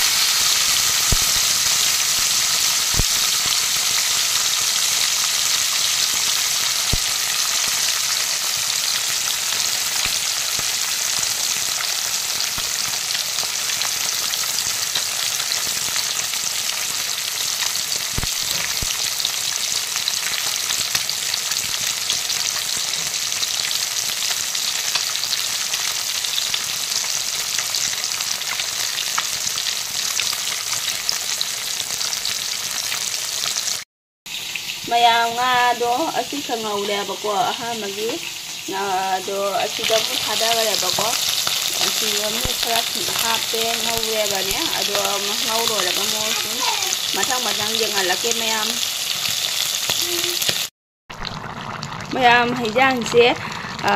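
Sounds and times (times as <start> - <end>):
fish frying in hot oil: 0.0 - 53.9.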